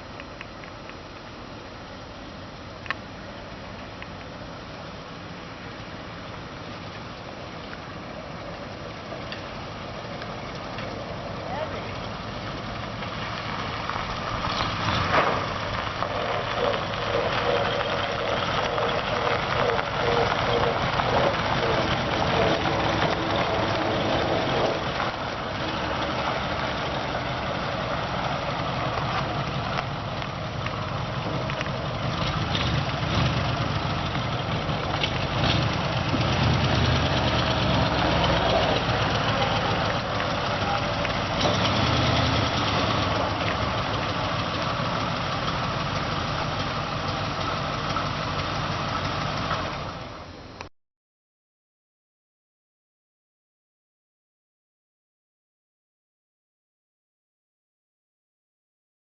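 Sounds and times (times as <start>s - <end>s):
truck engine running: 1.9s - 50.6s.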